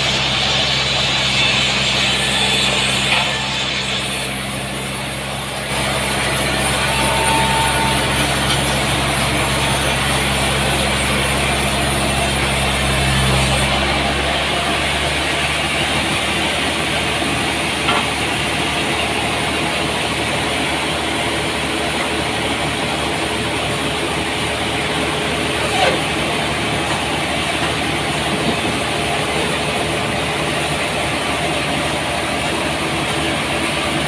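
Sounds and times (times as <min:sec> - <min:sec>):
sawmill machinery running: 0:00.0 - 0:34.0.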